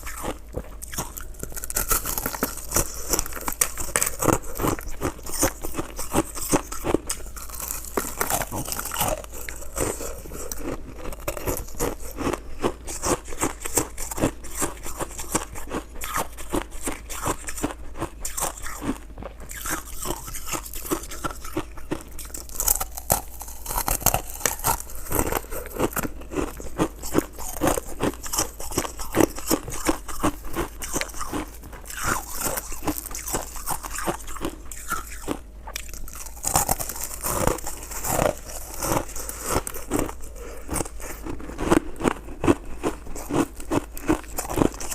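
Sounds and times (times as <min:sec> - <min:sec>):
person crunching ice: 0:00.0 - 0:44.9.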